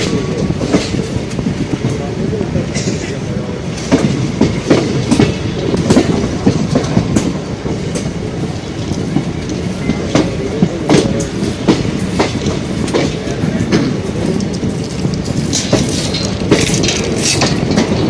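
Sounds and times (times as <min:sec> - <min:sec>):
train coaches rumbling: 0:00.0 - 0:18.0
wheels clattering over rail joints: 0:00.0 - 0:18.0.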